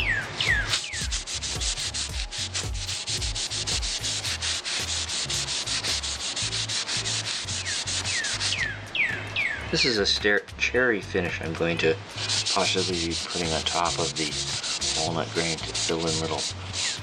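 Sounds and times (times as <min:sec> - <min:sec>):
sandpaper rubbing wood: 0:00.0 - 0:08.8, 0:11.6 - 0:17.0.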